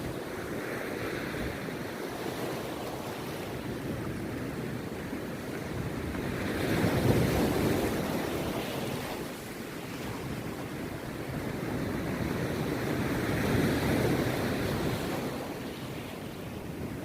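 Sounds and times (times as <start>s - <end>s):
surf breaking on a beach: 0.0s - 17.0s
wind buffeting microphone: 0.0s - 17.0s.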